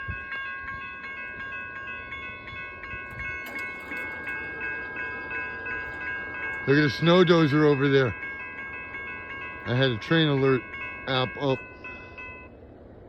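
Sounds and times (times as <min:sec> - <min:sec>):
crossing bell ringing: 0:00.0 - 0:13.0
low rumble of a train: 0:00.0 - 0:13.0.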